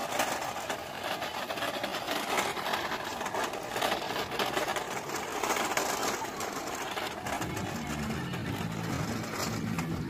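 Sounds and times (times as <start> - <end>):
toy truck wheels rattling on paving: 0.0 - 10.0.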